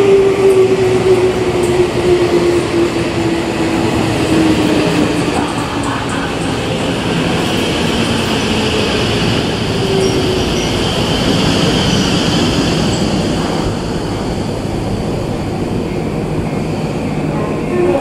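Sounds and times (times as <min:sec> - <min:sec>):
electric train rumbling past: 0:00.0 - 0:18.0.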